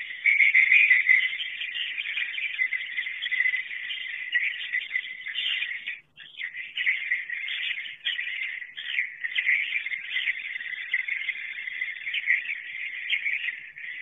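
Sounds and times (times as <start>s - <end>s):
swiftlets twittering: 0.0s - 14.0s.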